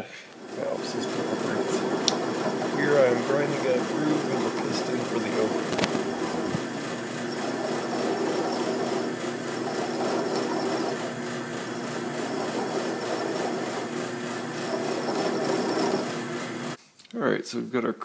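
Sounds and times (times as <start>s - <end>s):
drill press motor humming: 0.0s - 16.8s
tool scraping metal: 0.4s - 16.8s.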